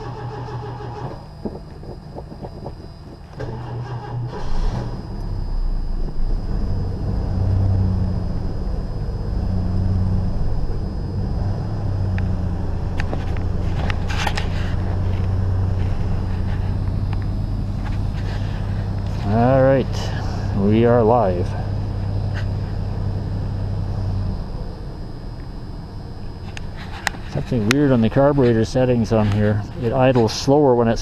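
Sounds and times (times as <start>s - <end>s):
car engine cranking: 0.0s - 25.4s
car engine revving cold: 0.0s - 31.0s.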